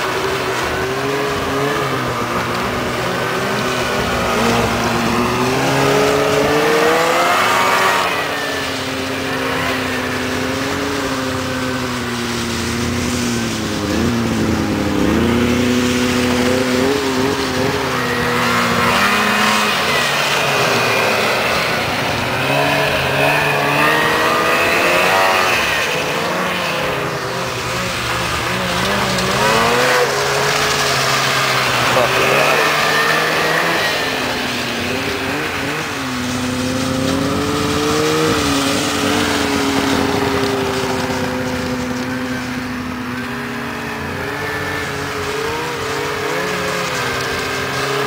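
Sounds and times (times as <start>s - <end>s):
snowmobile engines revving: 0.0s - 48.0s.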